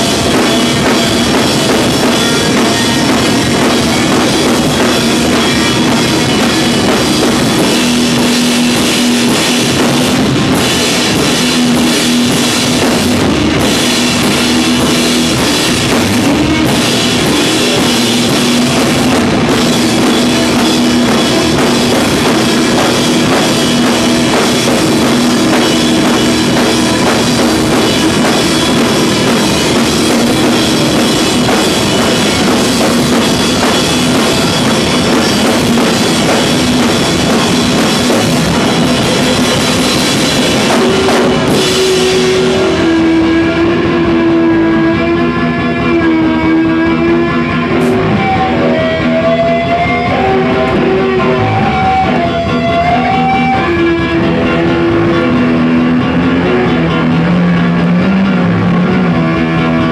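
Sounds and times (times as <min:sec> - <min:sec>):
drum kit with cymbals: 0:00.0 - 0:59.9
electric guitars: 0:00.0 - 0:59.9.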